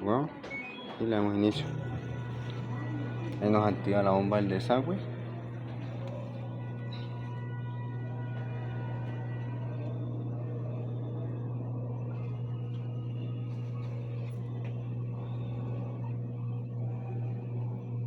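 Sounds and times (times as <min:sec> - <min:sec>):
drain pump electric hum: 0:01.0 - 0:18.0.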